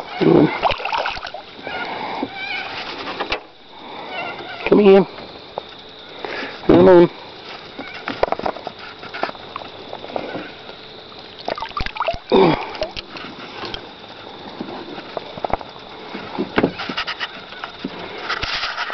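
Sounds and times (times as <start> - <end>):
water splashing and sloshing: 0.0 - 4.7, 5.5 - 18.9.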